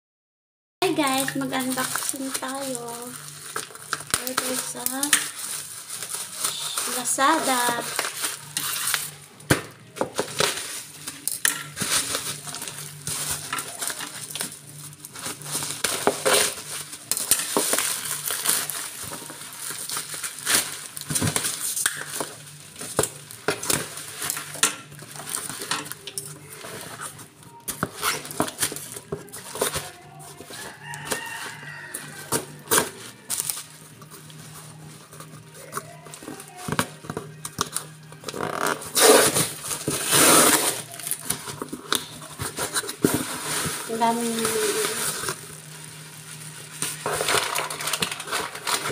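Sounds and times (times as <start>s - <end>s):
bubble wrap crinkling: 0.8s - 48.9s.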